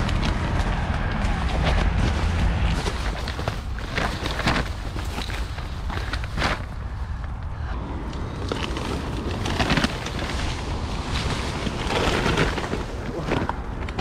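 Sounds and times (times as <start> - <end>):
leaves and branches rustling: 0.0 - 14.0
low rumble: 0.0 - 14.0.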